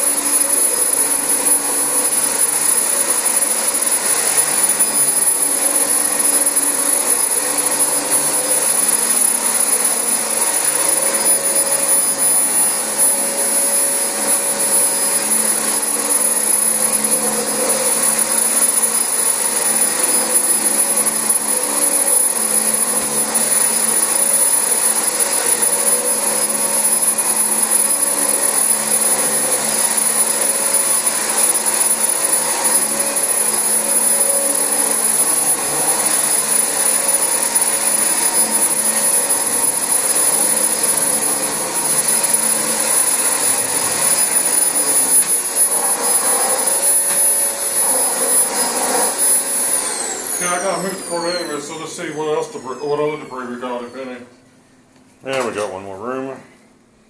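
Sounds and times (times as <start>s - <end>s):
vacuum cleaner on carpet: 0.0s - 53.6s.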